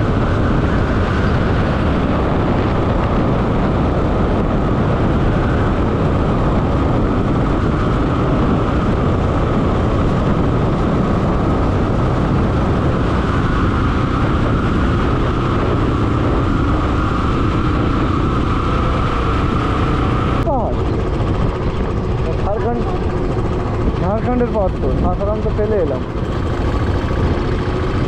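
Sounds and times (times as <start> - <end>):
motorcycle riding at speed: 0.0 - 28.0.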